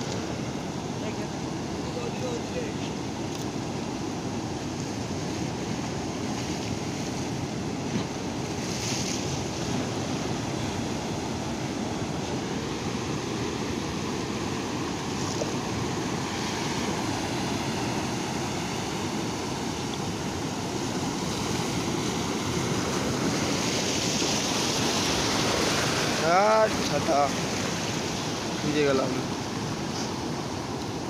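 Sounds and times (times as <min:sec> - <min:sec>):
waves washing over sand and rocks: 0:00.0 - 0:31.0.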